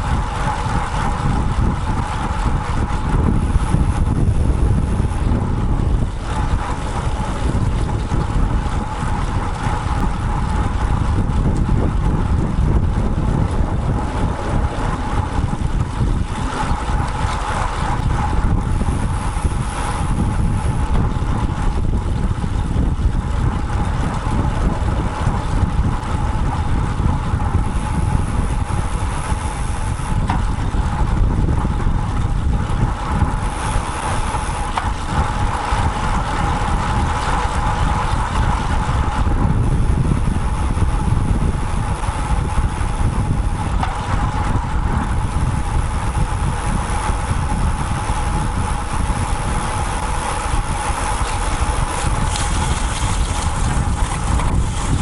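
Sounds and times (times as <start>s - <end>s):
road and traffic rumble: 0.0s - 55.0s
steady mid-pitched hum: 0.0s - 55.0s
wind on microphone: 0.0s - 55.0s.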